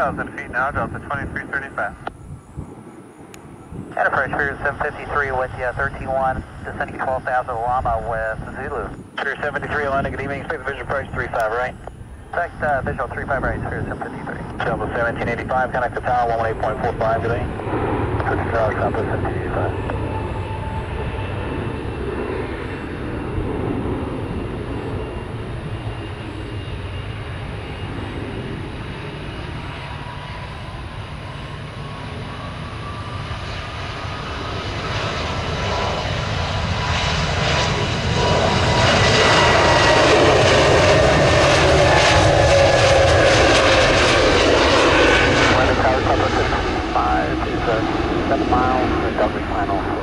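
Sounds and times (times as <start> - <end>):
airliner engines roaring: 0.0 - 50.0.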